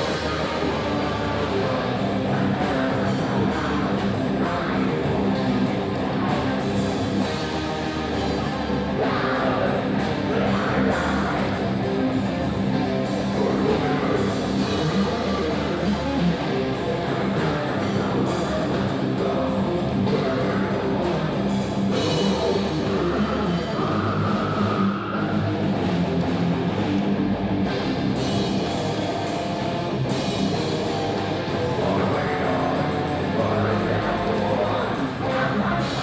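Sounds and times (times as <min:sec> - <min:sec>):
heavy metal band playing live: 0:00.0 - 0:36.0.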